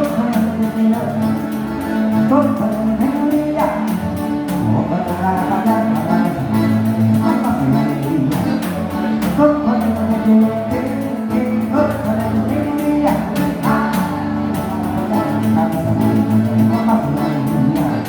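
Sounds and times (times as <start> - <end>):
accordion: 0.0 - 18.0
guitar: 0.0 - 18.0
person singing: 0.0 - 18.0.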